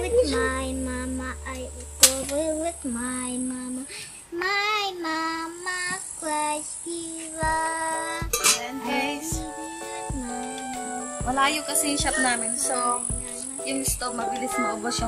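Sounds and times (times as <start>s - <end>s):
high child-like singing voice: 0.0s - 15.0s.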